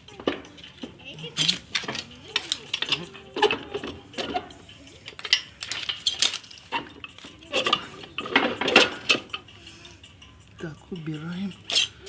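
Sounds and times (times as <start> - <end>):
screwdrivers clanking on metal: 0.0 - 12.0.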